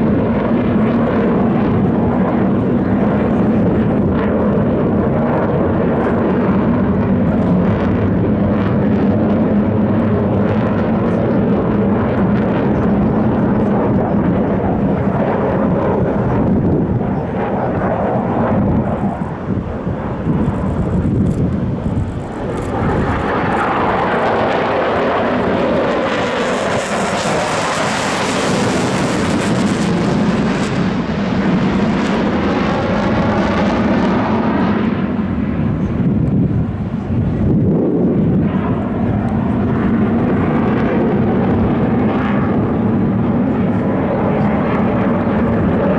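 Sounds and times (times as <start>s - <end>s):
aircraft engine noise: 0.0s - 45.9s.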